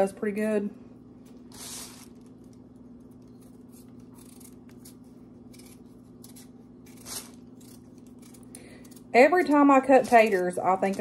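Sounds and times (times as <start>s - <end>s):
steady low hum: 0.0s - 11.0s
knife scraping potato skin: 1.4s - 2.4s, 3.1s - 11.0s.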